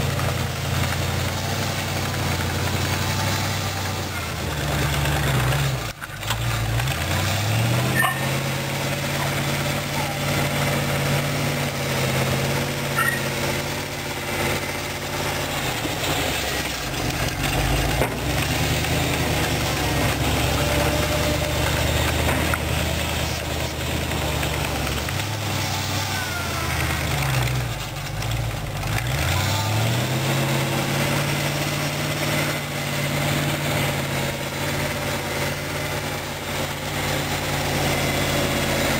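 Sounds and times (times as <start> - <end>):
tractor engine revving under load: 0.0 - 38.9.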